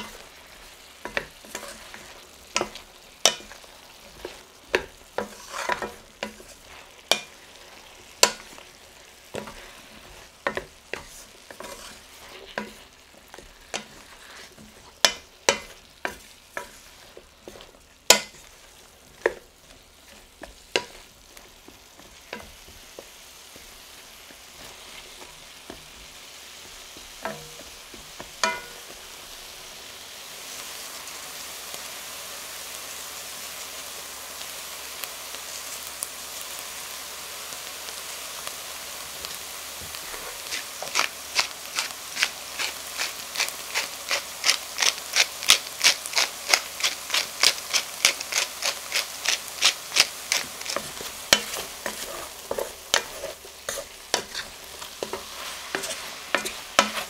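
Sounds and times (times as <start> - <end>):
vegetables sizzling in a pot: 0.0 - 57.0.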